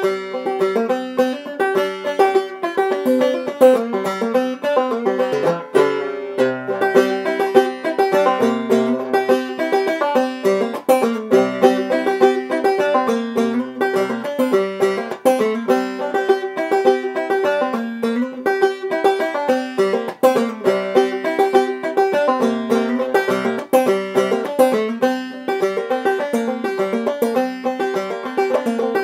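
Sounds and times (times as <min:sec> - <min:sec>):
banjo playing quick plucked notes: 0:00.0 - 0:29.0.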